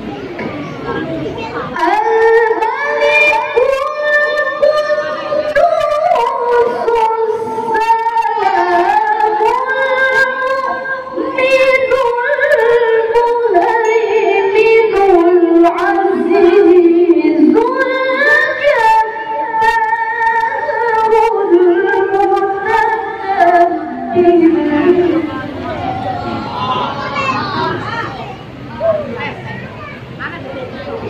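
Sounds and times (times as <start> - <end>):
woman chanting melodically: 1.6 - 27.0.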